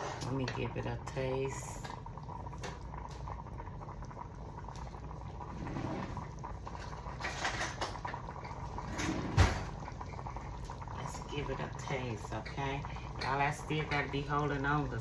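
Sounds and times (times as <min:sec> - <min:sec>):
pot simmering on stove: 0:00.0 - 0:15.0.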